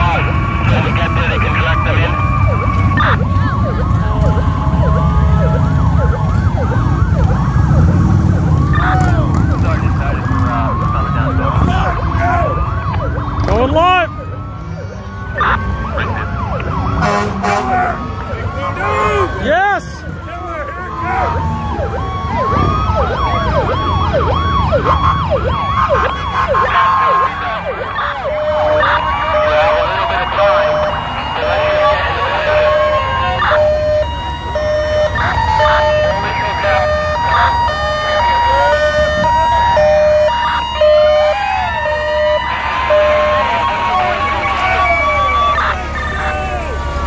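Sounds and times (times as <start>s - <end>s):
motorcycle engines passing: 0.0s - 47.0s
sirens wailing: 0.0s - 47.0s.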